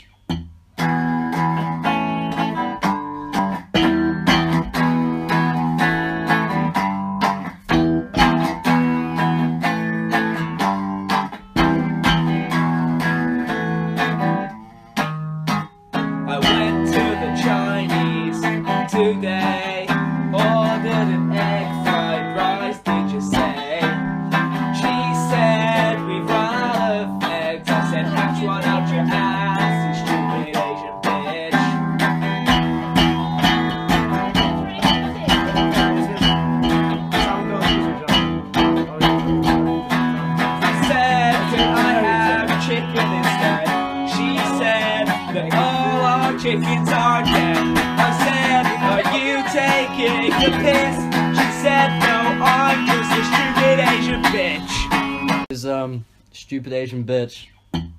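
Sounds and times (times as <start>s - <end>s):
guitar music: 0.0s - 55.6s, 57.7s - 57.9s.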